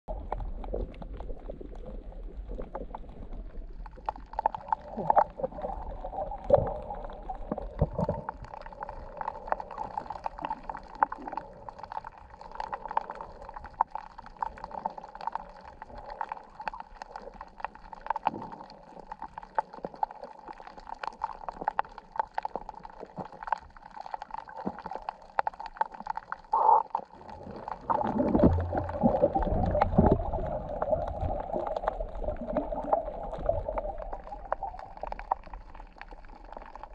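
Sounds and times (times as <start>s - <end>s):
muffled underwater gurgling: 0.1s - 36.9s.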